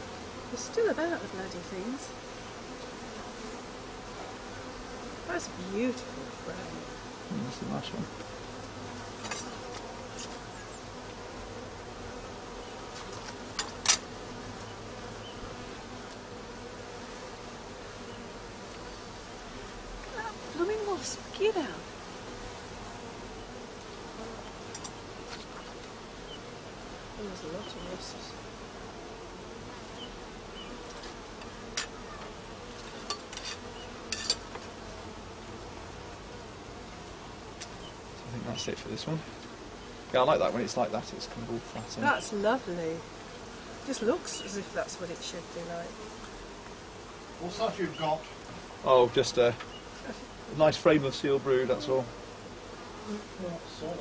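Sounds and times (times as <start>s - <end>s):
honeybees humming: 0.0s - 54.0s.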